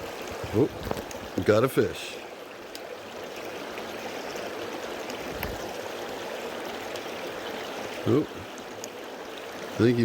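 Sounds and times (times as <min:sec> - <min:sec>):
creek water running: 0:00.0 - 0:10.0.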